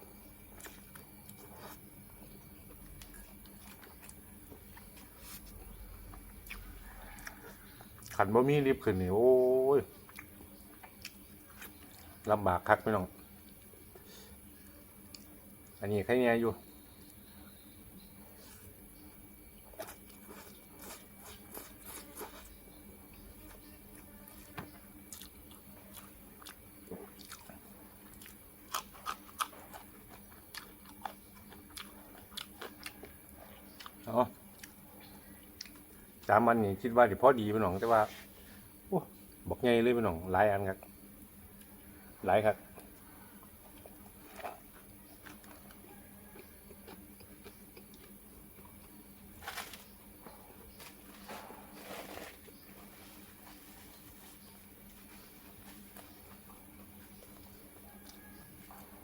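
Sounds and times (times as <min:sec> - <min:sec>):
crunchy chewing: 0:00.0 - 0:39.4, 0:40.2 - 0:59.0
faint steady hum: 0:00.0 - 0:59.0.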